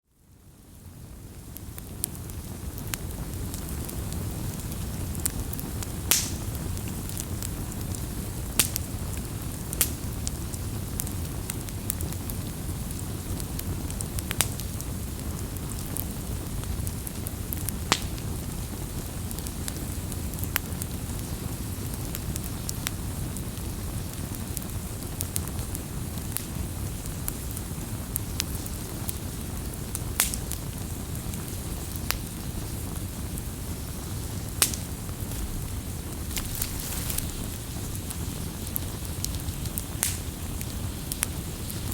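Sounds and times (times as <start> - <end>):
campfire rumble and hiss: 0.1 - 41.9
fire crackling and popping: 0.4 - 41.9.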